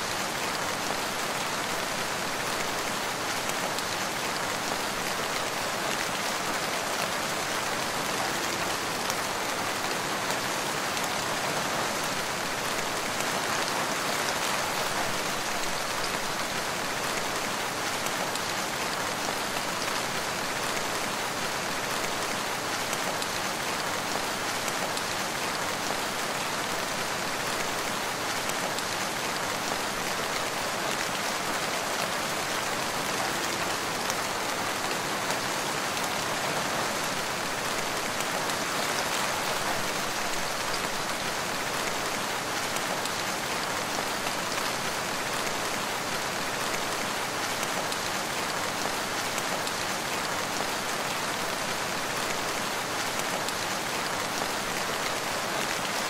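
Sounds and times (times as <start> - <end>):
rain on leaves: 0.0 - 56.0.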